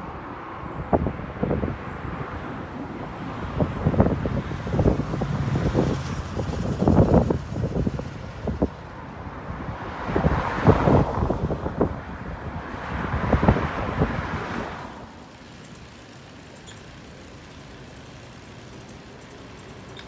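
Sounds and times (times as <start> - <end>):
wind buffeting microphone: 0.6 - 19.4.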